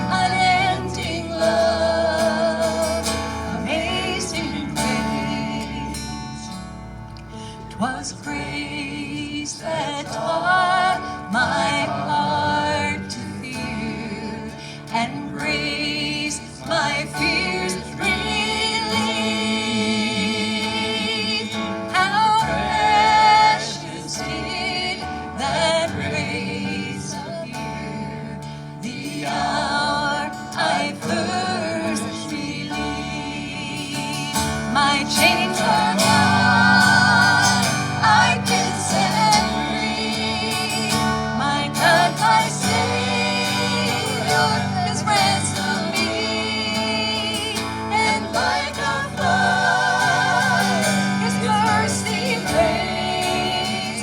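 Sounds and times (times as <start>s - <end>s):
person singing hymn: 0.0s - 6.6s, 7.2s - 54.0s
guitar accompaniment: 0.0s - 54.0s.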